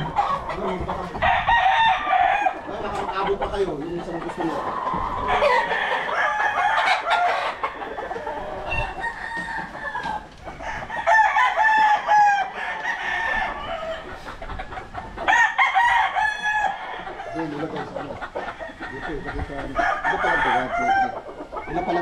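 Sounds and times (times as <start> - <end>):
roosters crowing: 0.0 - 22.0.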